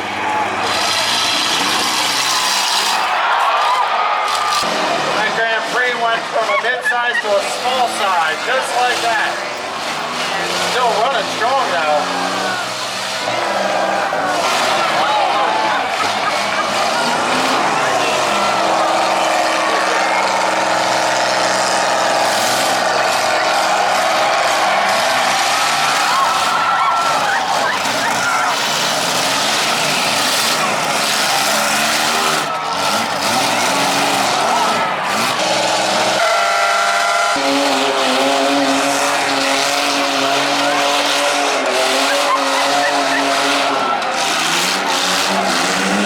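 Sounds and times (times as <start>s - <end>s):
arena noise: 0.0s - 46.0s
diesel engine running: 0.0s - 46.0s.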